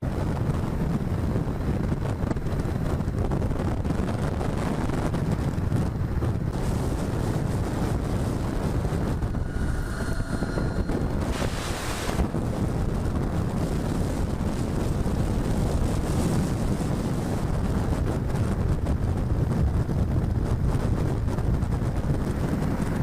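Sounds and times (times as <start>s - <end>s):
motorcycle road noise rumble: 0.0s - 23.0s
wind rushing over microphone: 0.0s - 23.0s.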